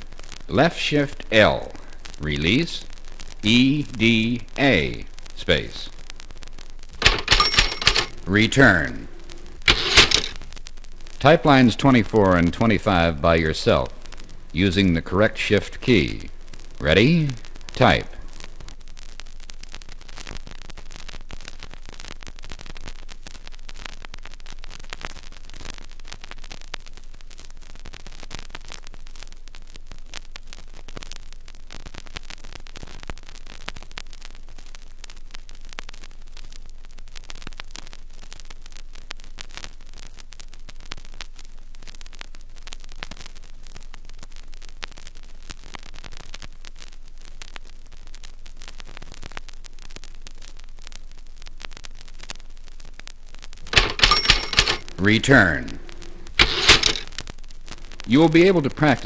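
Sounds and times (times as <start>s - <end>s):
vinyl record surface noise: 0.0s - 59.0s.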